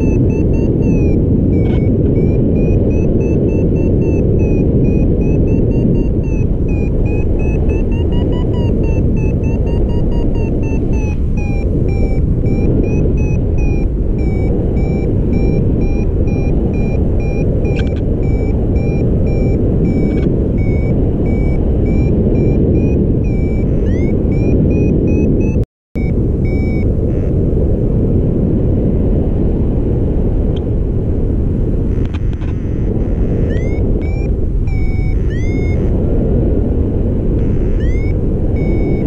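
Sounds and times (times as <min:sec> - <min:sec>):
variometer beeping: 0:00.0 - 0:27.4, 0:31.9 - 0:36.0, 0:37.4 - 0:39.0
wind rush on microphone: 0:00.0 - 0:39.0.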